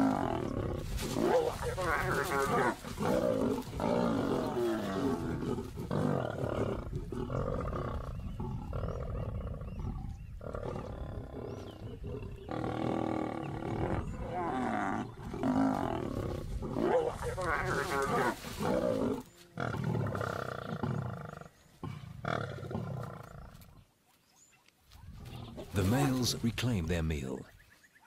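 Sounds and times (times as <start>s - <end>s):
lions growling and snarling: 0.0s - 23.8s, 25.0s - 26.2s.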